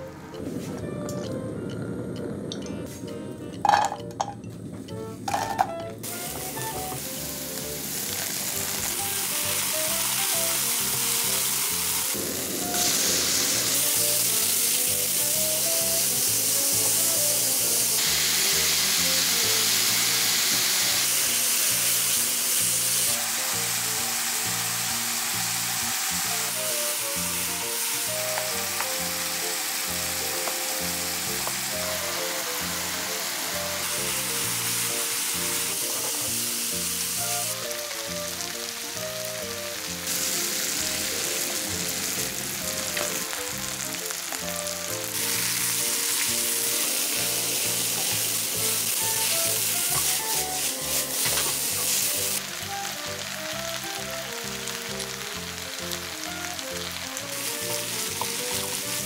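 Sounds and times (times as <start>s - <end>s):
food sizzling in hot oil: 2.5s - 4.3s, 5.3s - 59.0s.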